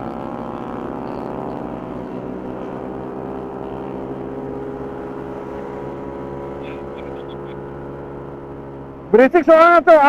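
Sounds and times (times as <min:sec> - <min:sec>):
scooter engine cruising: 0:00.0 - 0:10.0.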